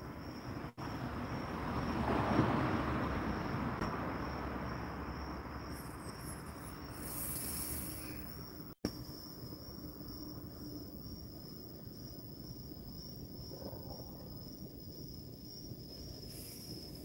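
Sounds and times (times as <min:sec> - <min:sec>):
cricket trill: 0:00.0 - 0:17.0.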